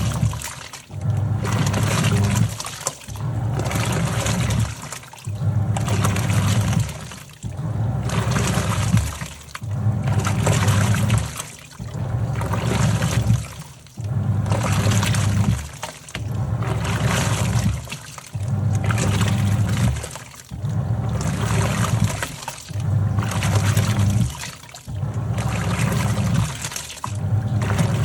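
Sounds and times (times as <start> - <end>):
washing machine motor humming: 0.0 - 28.0
water sloshing in a tub: 0.0 - 28.0.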